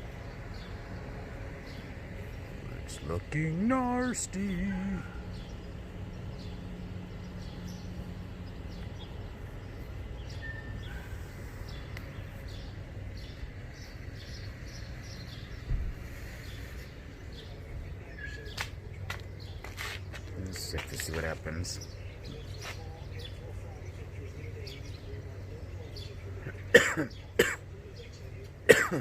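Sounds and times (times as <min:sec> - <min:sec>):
birds chirping: 0:00.0 - 0:29.0
low background hum: 0:00.0 - 0:29.0.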